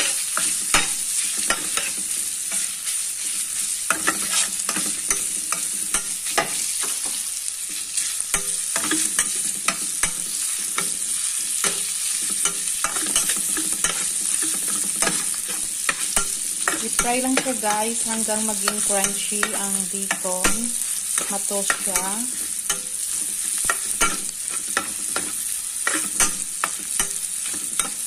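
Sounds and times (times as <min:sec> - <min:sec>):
bacon sizzling in a pan: 0:00.0 - 0:28.0
spatula scraping a pan: 0:00.0 - 0:28.0.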